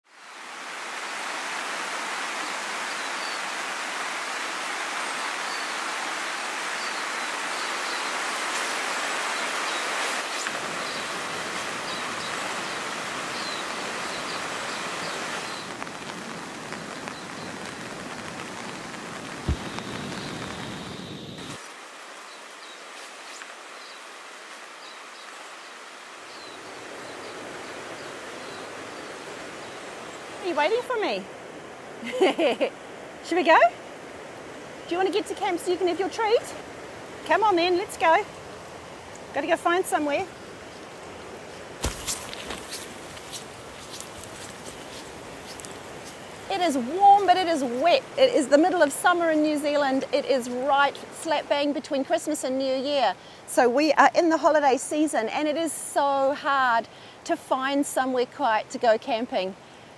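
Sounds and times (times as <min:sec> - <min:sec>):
falling rain: 0:00.0 - 0:59.9
running water: 0:00.0 - 0:59.9.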